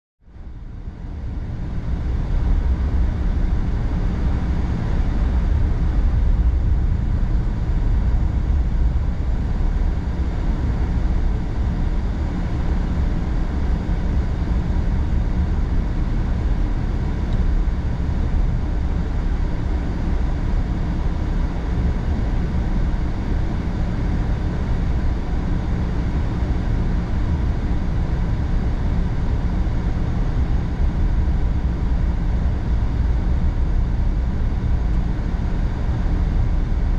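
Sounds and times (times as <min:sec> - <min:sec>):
deep rumble: 0:00.5 - 0:36.9.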